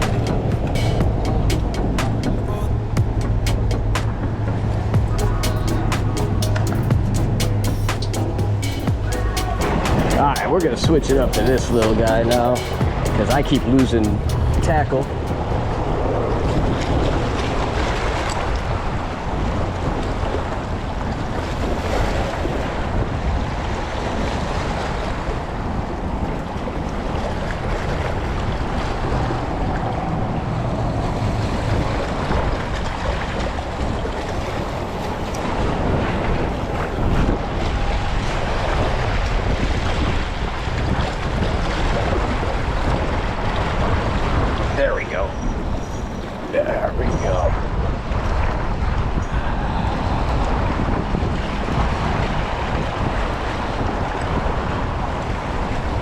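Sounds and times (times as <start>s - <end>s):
shallow water washing: 0.0s - 56.0s
wind buffeting microphone: 0.0s - 56.0s.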